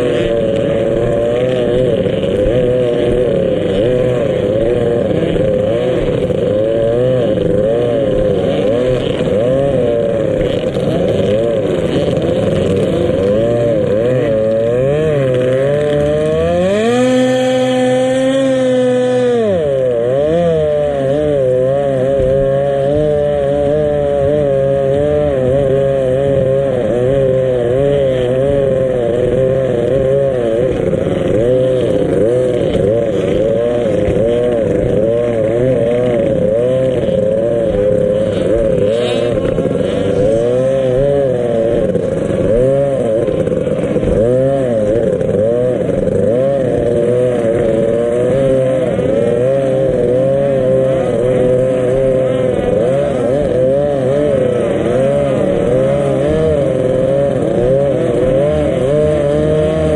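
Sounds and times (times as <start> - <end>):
powerboat engine revving: 0.0 - 59.9.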